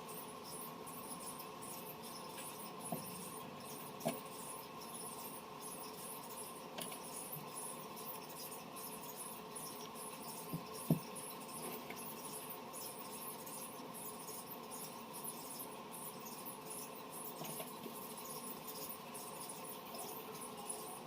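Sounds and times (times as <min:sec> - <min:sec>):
thin steady tone: 0:00.0 - 0:21.0.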